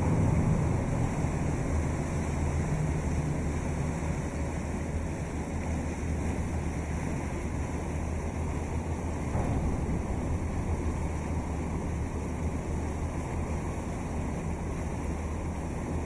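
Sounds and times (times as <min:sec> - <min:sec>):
boat engine humming: 0:00.0 - 0:16.0
water rushing past hull: 0:00.0 - 0:16.0.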